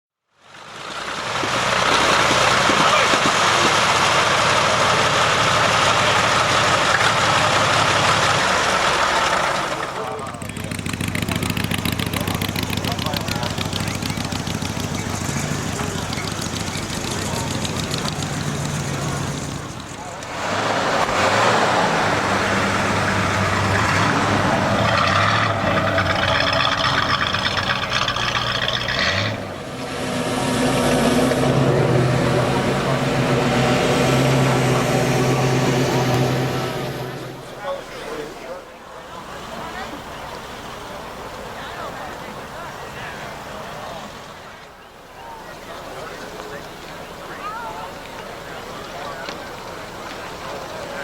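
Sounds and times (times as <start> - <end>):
car engine idling: 0.4 - 20.5, 21.1 - 51.0.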